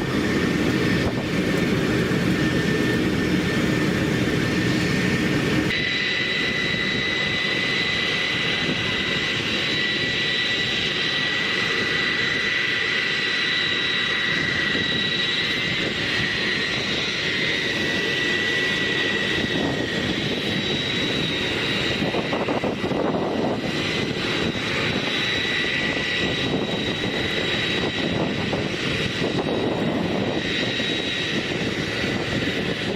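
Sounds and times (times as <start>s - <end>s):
high engine whine: 0.0s - 32.9s
jet engines rushing: 0.0s - 32.9s.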